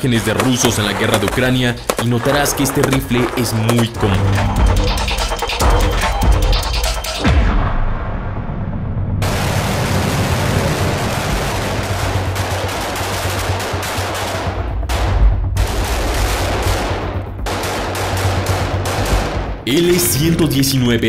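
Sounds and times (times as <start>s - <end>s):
rapid rifle fire: 0.0s - 7.2s, 9.2s - 20.1s.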